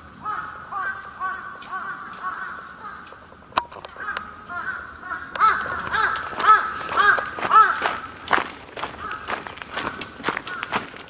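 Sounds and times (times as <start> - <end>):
crows cawing: 0.0 - 11.0.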